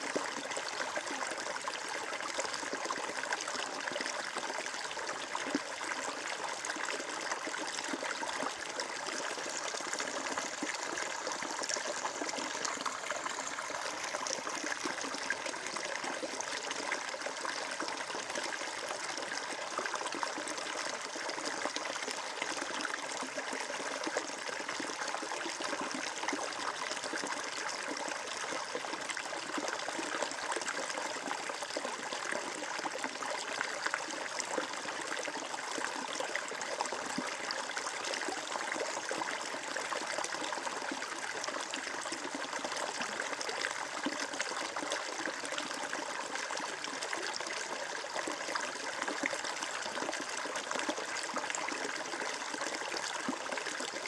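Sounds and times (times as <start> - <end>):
stream of water trickling: 0.0 - 54.0.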